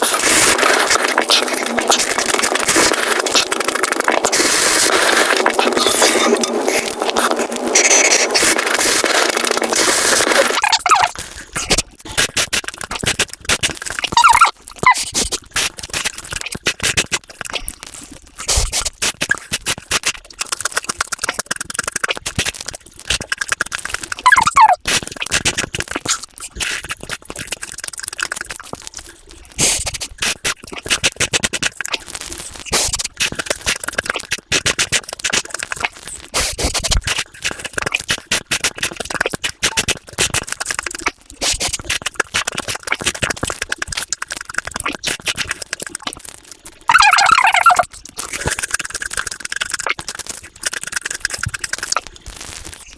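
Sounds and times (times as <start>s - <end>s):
sped-up chewing and crunching: 0.0s - 52.9s.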